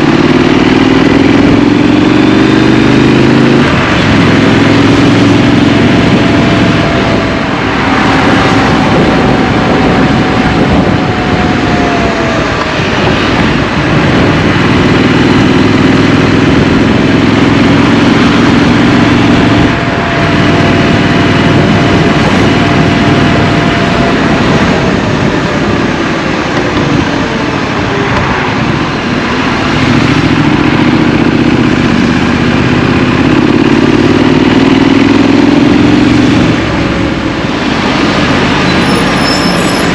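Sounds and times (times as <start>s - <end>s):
motorcycle engine: 0.0s - 39.9s
steady rush of noise: 0.0s - 39.9s.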